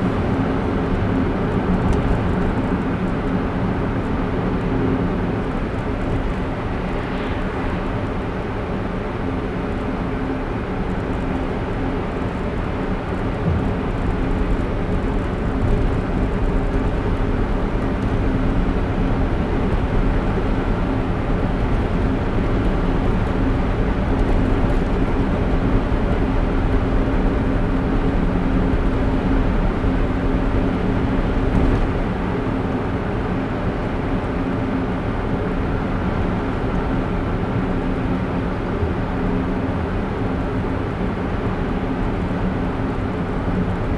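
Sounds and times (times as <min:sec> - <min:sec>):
car tyre and engine noise: 0:00.0 - 0:43.9.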